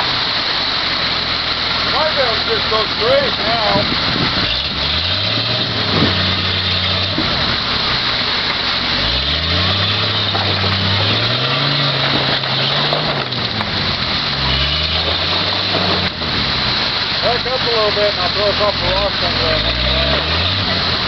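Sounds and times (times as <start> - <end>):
creek water rushing: 0.0 - 21.0
engine revving under load: 0.0 - 21.0.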